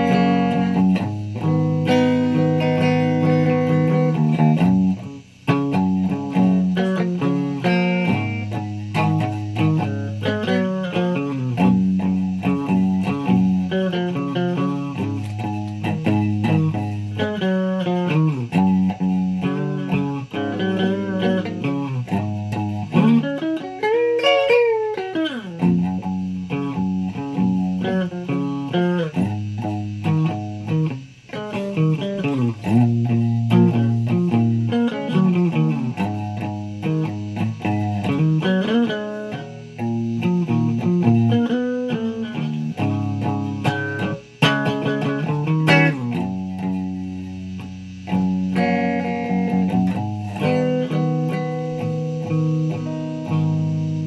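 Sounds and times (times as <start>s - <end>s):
plucked guitar music: 0.0s - 54.0s.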